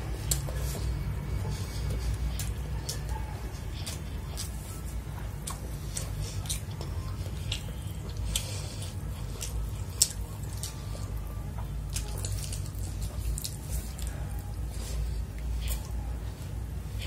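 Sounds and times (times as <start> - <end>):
fingers squishing rice: 0.0 - 17.0
steady low hum: 0.0 - 17.0
wet chewing: 0.0 - 17.0.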